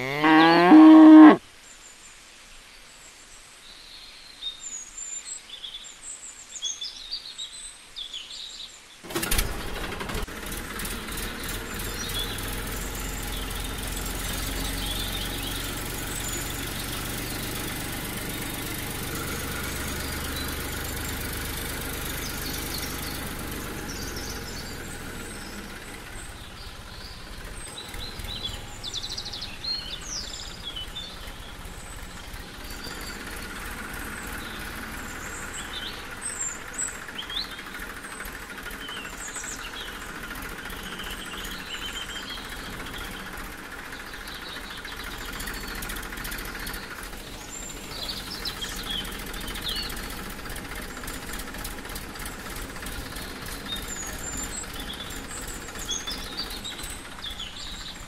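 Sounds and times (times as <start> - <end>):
birds chirping: 0.0 - 1.4, 11.2 - 58.0.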